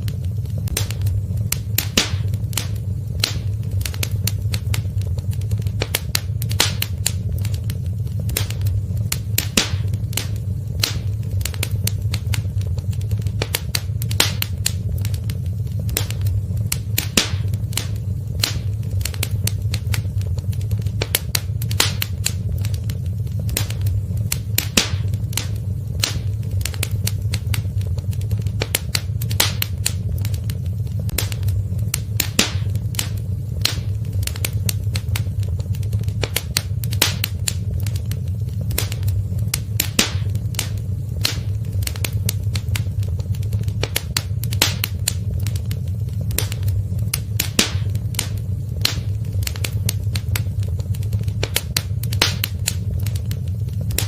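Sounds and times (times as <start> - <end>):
burning wood crackling and popping: 0.0 - 54.0
low rumble of flames: 0.0 - 54.0.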